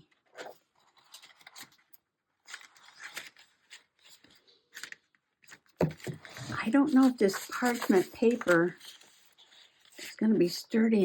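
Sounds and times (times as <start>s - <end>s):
paper rustling: 0.0s - 10.2s.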